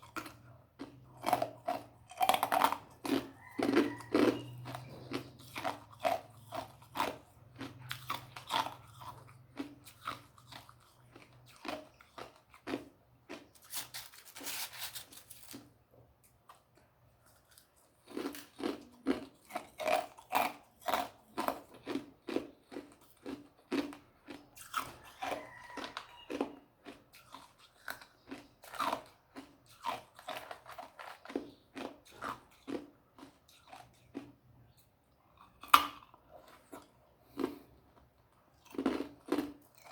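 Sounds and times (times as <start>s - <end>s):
person crunching ice cubes: 0.0s - 15.7s, 17.5s - 34.4s, 35.4s - 39.9s.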